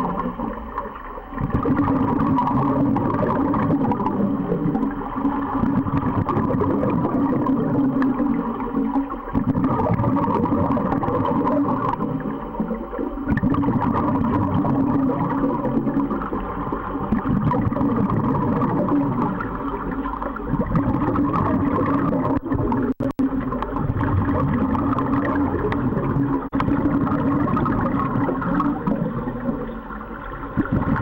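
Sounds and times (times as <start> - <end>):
regulator bubbling underwater: 0.0 - 31.0.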